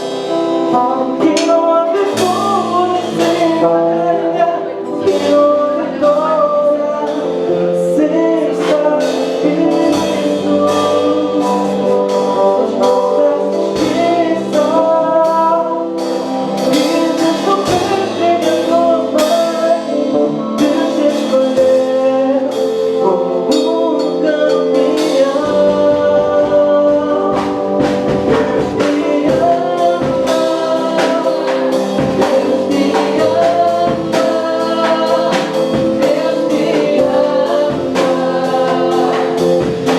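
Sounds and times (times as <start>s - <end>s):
band song with singing: 0.0s - 39.9s.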